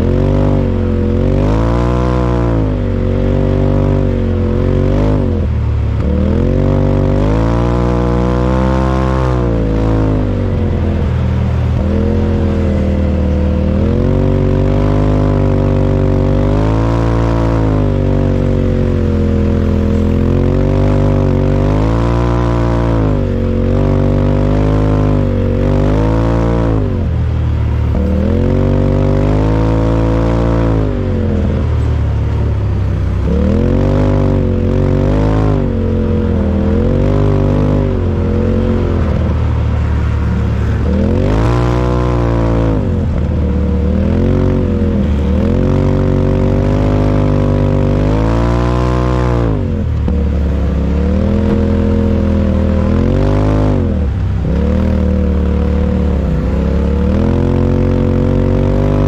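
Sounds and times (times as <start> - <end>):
engine revving under load: 0.0 - 59.0.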